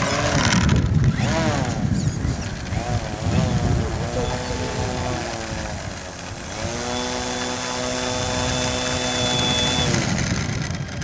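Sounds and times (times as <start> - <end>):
model plane motor and propeller: 0.0 - 11.0
thin high whine: 1.1 - 10.0.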